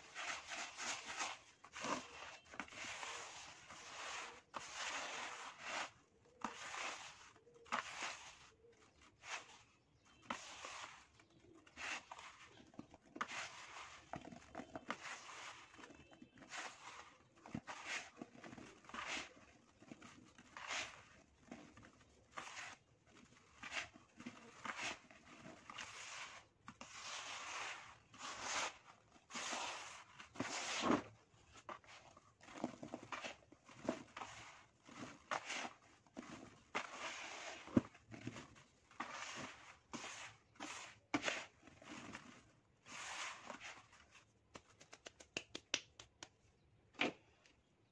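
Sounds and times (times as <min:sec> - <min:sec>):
dry soil pattering into plastic basin: 0:00.0 - 0:47.9.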